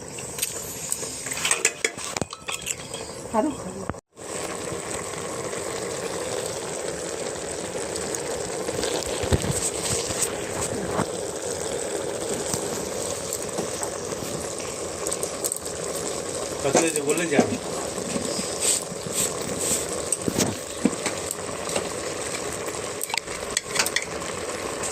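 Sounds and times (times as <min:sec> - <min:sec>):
meat sizzling: 0:00.0 - 0:24.9.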